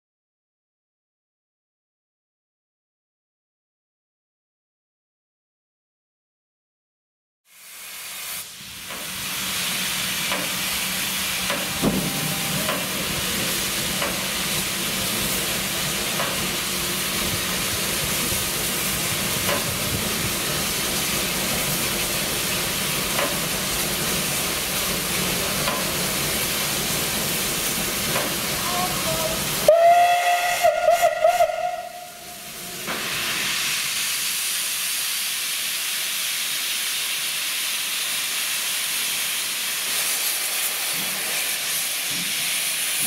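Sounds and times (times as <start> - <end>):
steam locomotive hissing: 7.5 - 43.0.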